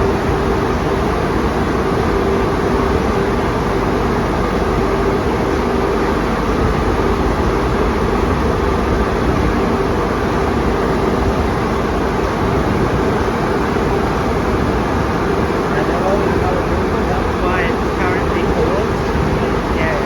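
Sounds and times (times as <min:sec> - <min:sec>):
car wash machinery rushing: 0:00.0 - 0:20.0
constant machine hum: 0:00.0 - 0:20.0.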